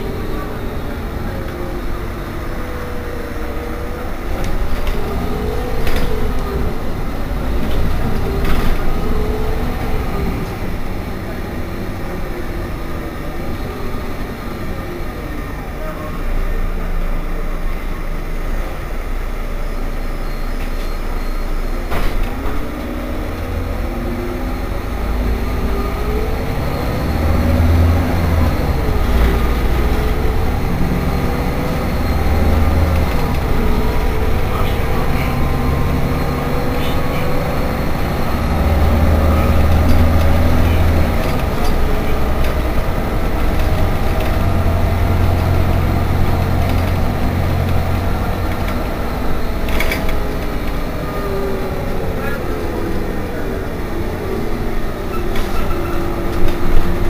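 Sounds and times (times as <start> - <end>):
bus engine rumble: 0.0 - 57.0
drivetrain whine: 0.0 - 57.0.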